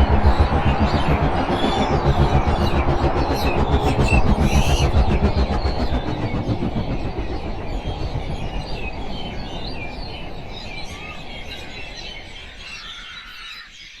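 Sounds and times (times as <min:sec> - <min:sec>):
low rumble: 0:00.0 - 0:12.8
birds chirping: 0:00.0 - 0:14.0.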